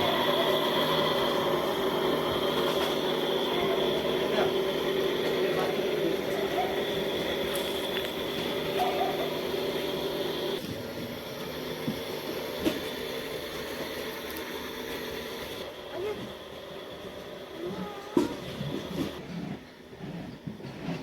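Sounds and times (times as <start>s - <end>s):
motor humming: 0.0s - 19.2s.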